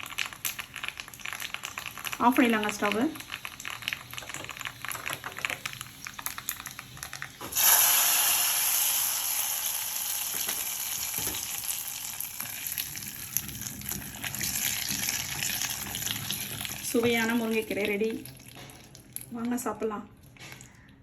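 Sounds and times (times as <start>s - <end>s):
loud sizzle: 0.0s - 19.2s
spices crackling in hot oil: 0.0s - 21.0s.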